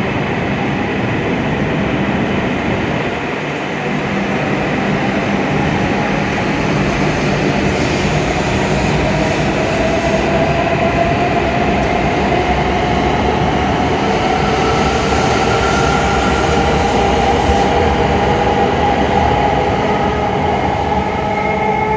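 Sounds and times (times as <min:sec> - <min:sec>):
train running noise: 0:00.0 - 0:21.9.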